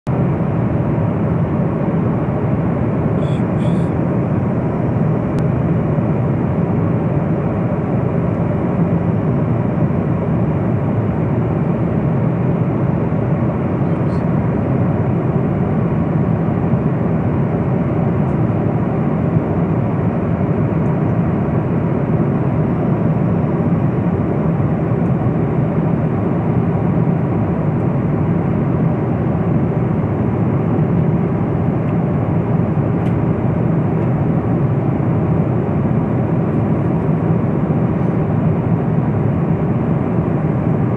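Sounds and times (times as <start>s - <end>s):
airliner cabin noise: 0.1s - 40.9s.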